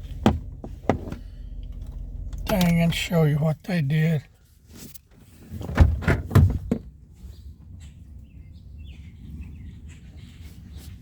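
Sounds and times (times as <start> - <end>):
low steady rumble: 0.0 - 10.9.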